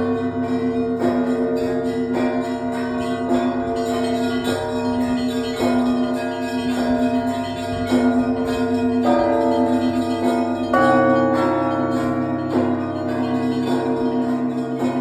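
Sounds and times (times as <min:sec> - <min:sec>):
heavy bells struck: 0:00.0 - 0:15.0
small bells ringing quickly: 0:00.0 - 0:15.0.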